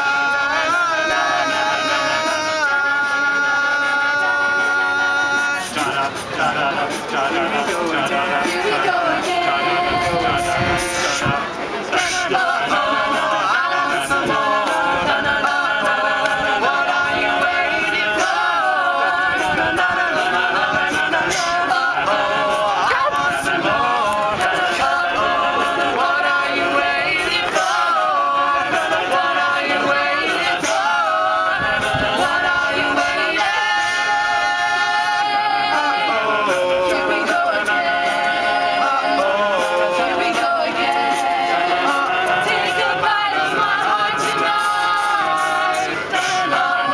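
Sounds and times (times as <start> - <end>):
a cappella group singing in harmony: 0.0 - 46.9.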